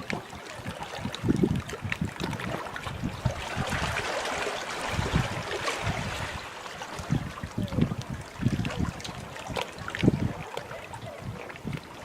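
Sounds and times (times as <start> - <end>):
choppy sea water rushing: 0.0 - 12.0
wind buffeting microphone: 0.0 - 12.0.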